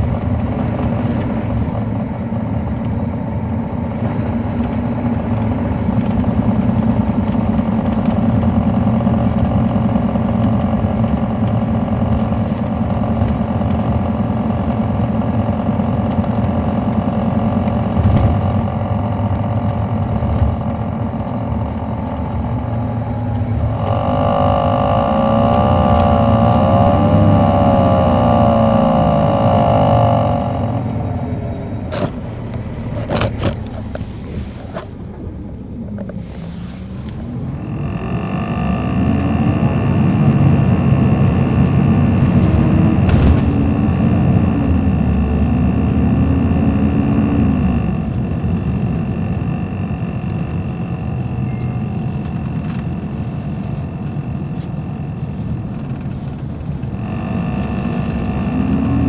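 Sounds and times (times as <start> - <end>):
diesel engine drone: 0.0 - 59.0
high-pitched wavering whine: 5.6 - 31.6, 36.4 - 59.0.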